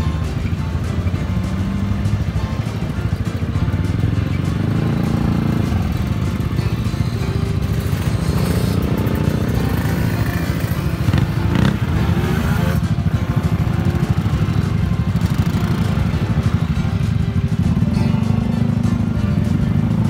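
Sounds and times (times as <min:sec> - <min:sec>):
motorcycles idling: 0:00.0 - 0:20.0.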